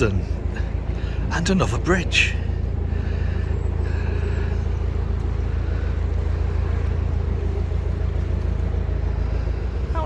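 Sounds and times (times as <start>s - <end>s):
boat diesel engine rumbling: 0.0s - 10.0s.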